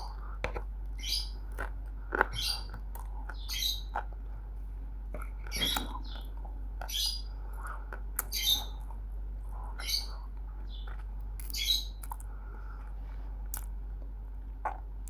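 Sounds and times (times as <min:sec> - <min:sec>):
crisp crunching of chewing: 0:00.0 - 0:15.0.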